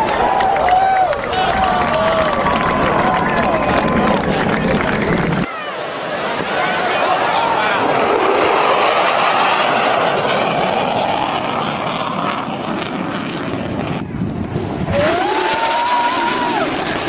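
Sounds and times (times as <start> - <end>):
jet fighter roaring past: 0.0 - 17.0
rising engine whine: 0.0 - 17.0.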